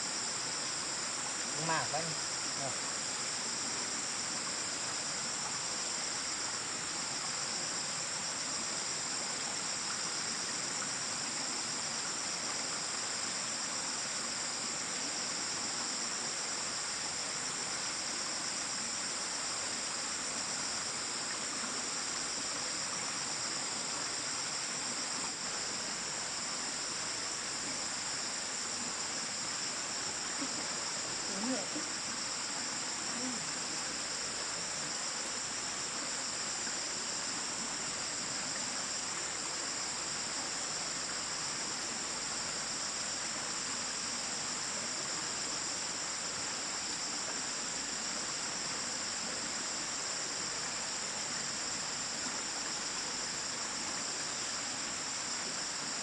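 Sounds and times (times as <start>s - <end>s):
background hiss: 0.0s - 56.0s
insects trilling: 0.0s - 56.0s.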